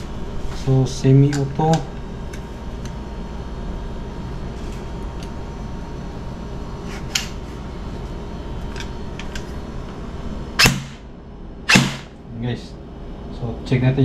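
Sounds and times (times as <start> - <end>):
fan-like room hum: 0.0 - 14.0.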